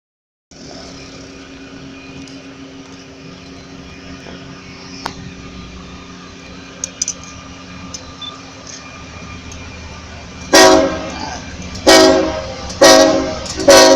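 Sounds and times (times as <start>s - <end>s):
diesel locomotive droning: 0.5s - 13.9s.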